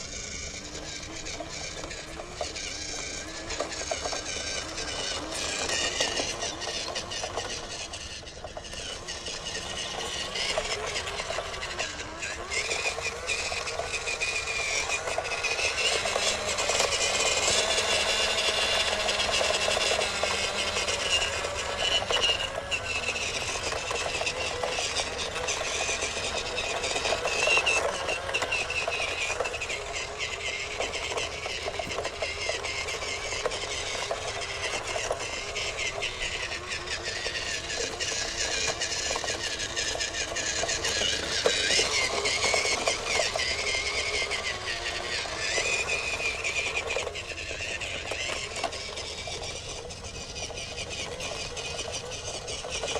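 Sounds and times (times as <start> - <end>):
electric motor whining: 0.0 - 52.9.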